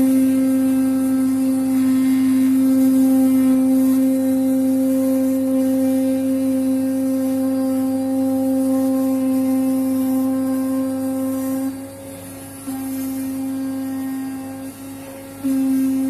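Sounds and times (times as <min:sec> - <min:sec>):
fabric cutter knife humming: 0:00.0 - 0:16.0.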